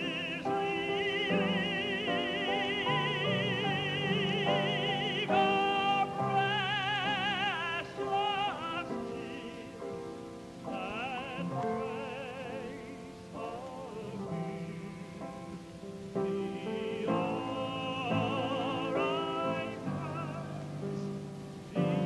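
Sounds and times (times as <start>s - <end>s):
vocal group singing gospel: 0.0s - 22.0s.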